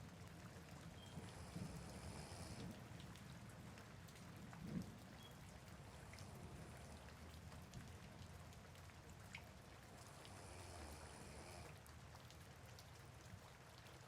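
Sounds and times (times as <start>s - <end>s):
soft rain hiss: 0.0s - 14.0s.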